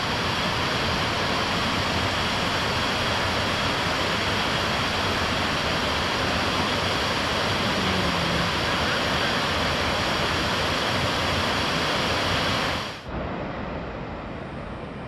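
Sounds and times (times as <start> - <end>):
waterfall pouring and splashing: 0.0 - 13.0.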